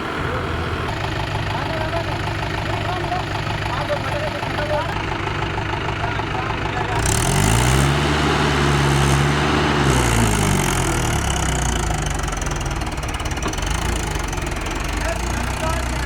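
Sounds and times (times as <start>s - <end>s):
tractor diesel engine revving: 0.0s - 16.0s
tractor engine idling: 0.0s - 16.0s.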